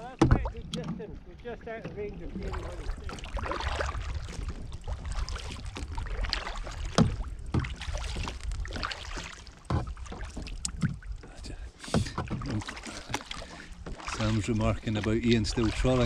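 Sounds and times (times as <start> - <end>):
canoe paddle splashing in water: 0.0 - 16.0.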